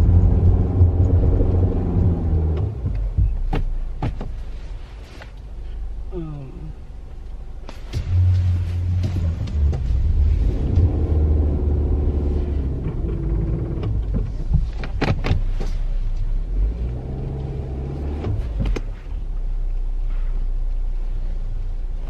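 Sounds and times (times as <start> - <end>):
car engine running under load: 0.0 - 22.0.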